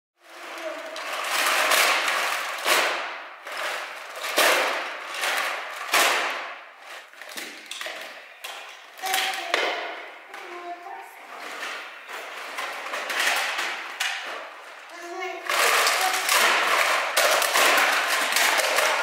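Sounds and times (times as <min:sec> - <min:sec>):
plastic toys rattling on floor: 0:00.2 - 0:19.0.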